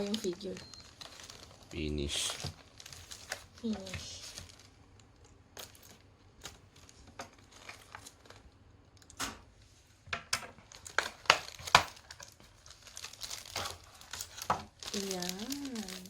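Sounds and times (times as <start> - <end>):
plastic packaging crinkling: 0.0 - 9.2, 10.3 - 16.0.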